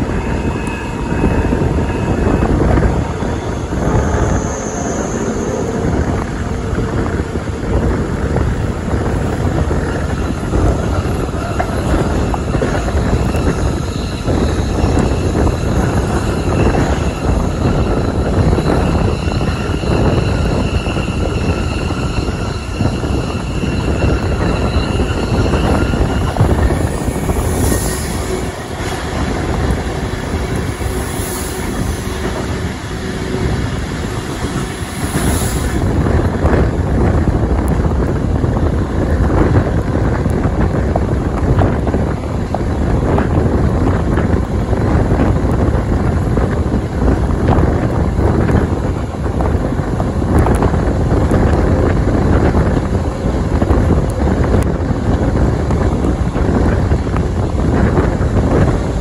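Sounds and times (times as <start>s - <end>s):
passing train rushing hiss: 0.0s - 58.9s
train running rumble: 0.0s - 59.0s
wind: 0.0s - 59.0s.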